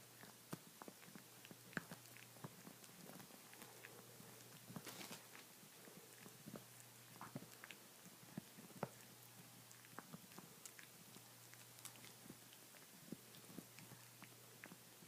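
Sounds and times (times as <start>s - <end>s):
dog gnawing on a bone: 0.1s - 15.0s.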